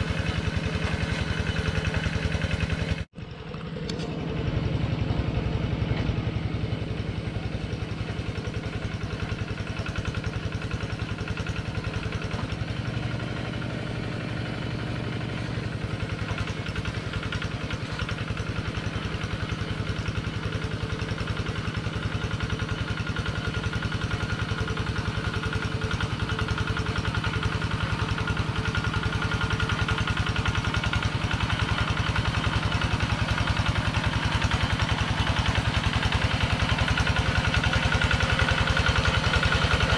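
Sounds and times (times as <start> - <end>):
diesel hand tractor chugging: 0.0 - 39.9.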